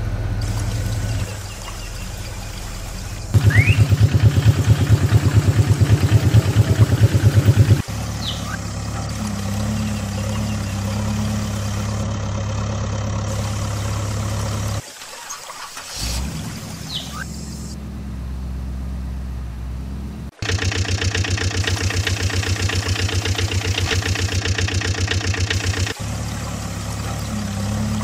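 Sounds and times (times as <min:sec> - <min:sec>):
engine idling: 0:00.0 - 0:14.8, 0:15.8 - 0:28.0
fast engine chugging: 0:00.0 - 0:14.8, 0:20.3 - 0:28.0
engine humming: 0:00.0 - 0:14.9, 0:15.8 - 0:28.0.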